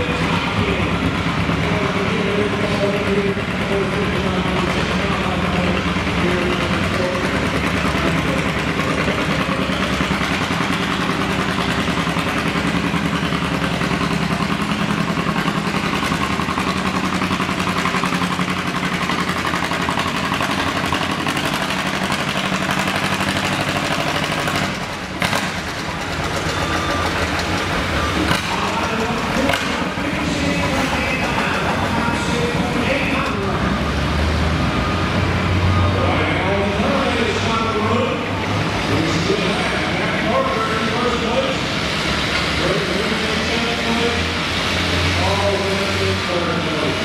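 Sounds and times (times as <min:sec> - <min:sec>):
tractor engine under load: 0:00.0 - 0:47.0.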